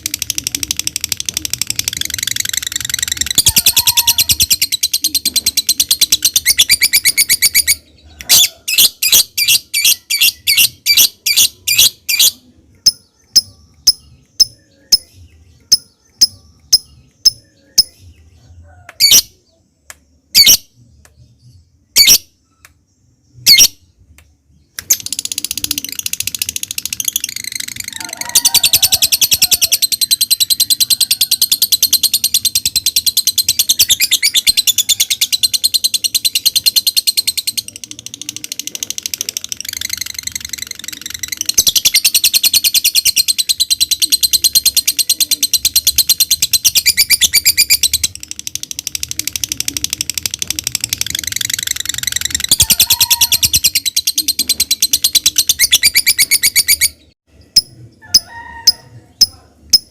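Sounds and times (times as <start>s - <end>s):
lovebird rapid trill: 0.0s - 18.0s, 24.8s - 59.9s
lovebird calls: 0.1s - 19.3s, 24.8s - 59.9s.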